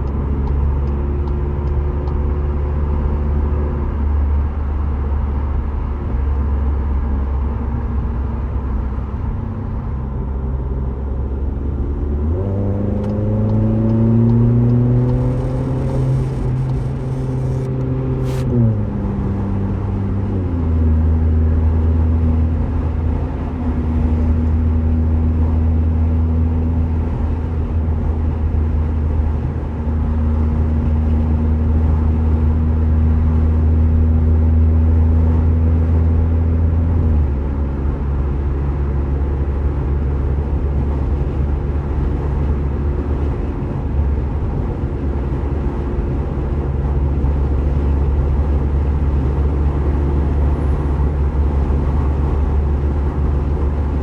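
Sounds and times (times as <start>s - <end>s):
car engine droning: 0.0s - 54.0s
tyre and road noise: 0.0s - 54.0s.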